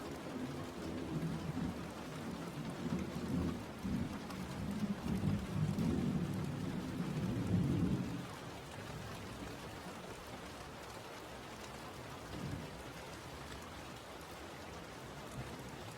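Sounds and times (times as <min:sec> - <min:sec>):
steady rain: 0:00.0 - 0:15.9.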